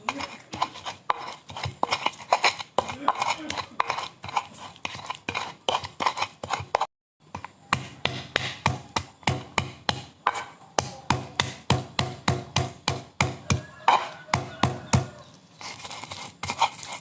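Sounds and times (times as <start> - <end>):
knife chopping food: 0.0 - 15.2.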